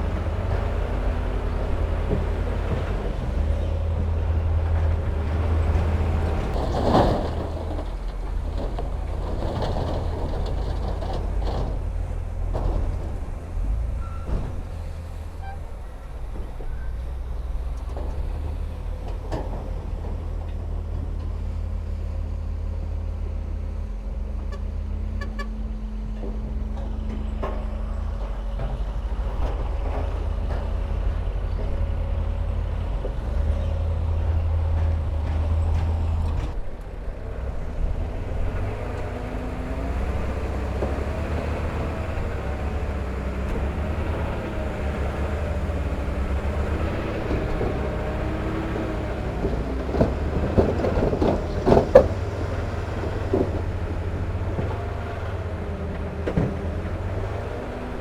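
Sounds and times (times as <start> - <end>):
machinery clanks and knocks: 0.0 - 21.5, 25.2 - 58.0
heavy diesel machinery engine drone: 0.0 - 58.0.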